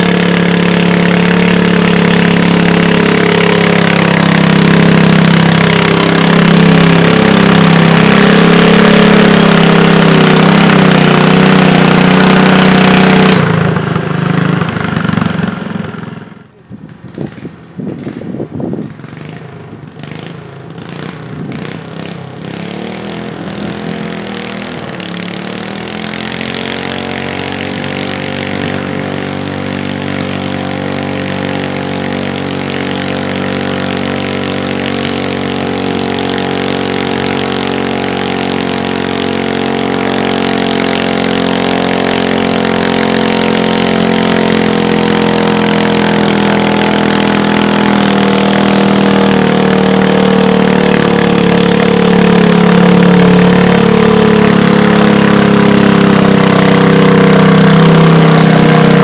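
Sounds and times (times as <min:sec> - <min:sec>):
garden tractor engine under load: 0:00.0 - 0:59.0.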